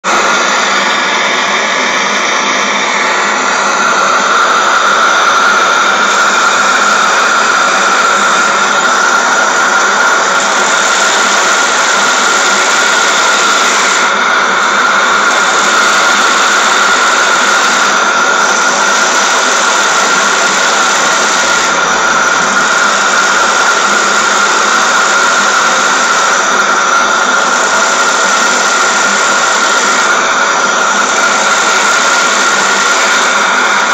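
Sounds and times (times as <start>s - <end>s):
high constant whine: 0.1s - 33.9s
steam engine exhaust hissing: 2.0s - 33.9s.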